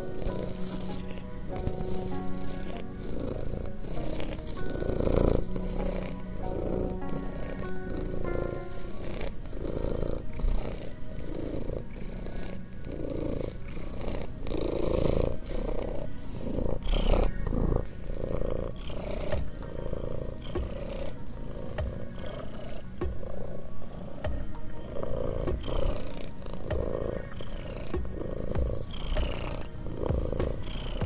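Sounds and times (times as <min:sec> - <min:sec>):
cat purring: 0:00.0 - 0:31.0.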